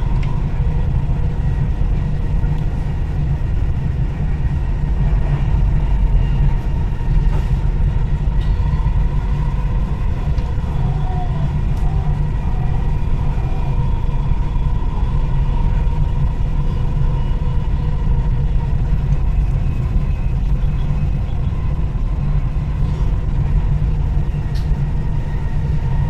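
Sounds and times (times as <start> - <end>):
faint steady whine: 0.0 - 26.0
train rumble inside carriage: 0.0 - 26.0.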